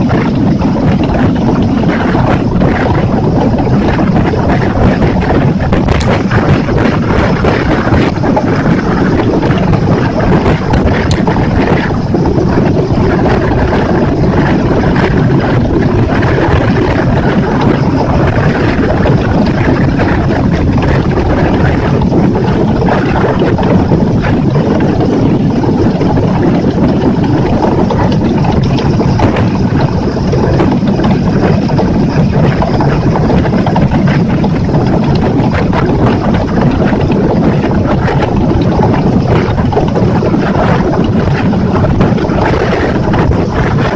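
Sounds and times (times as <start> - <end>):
outboard motor running: 0.0 - 43.9
water rushing past hull: 0.0 - 43.9
wind buffeting microphone: 0.0 - 43.9.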